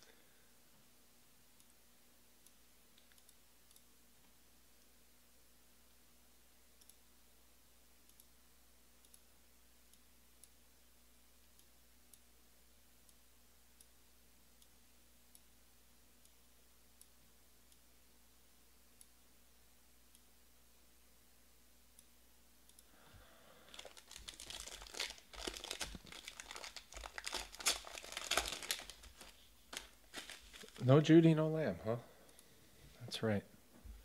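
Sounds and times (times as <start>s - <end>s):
faint room hum: 0.0s - 34.0s.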